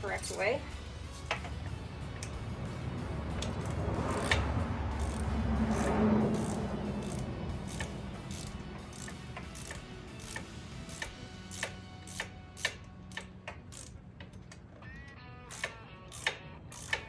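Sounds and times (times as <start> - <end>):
ratchet wrench clicking: 1.0 - 2.4, 3.3 - 17.0.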